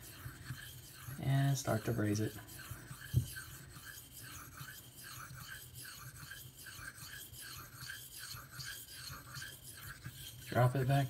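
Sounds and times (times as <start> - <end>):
knife scraping on whetstone: 0.0 - 11.0.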